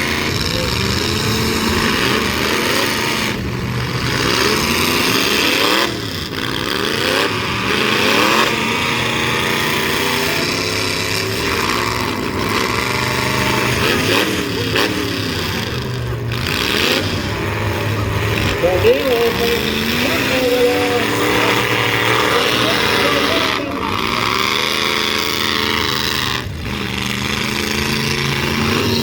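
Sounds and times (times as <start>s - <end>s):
truck engines revving hard: 0.0s - 29.0s.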